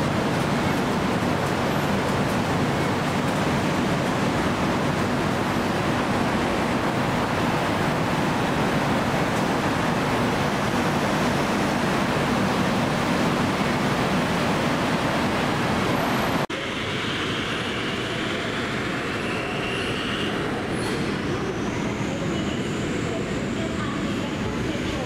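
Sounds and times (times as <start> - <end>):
high train whines: 0.0 - 25.0
train rumble: 0.0 - 25.0.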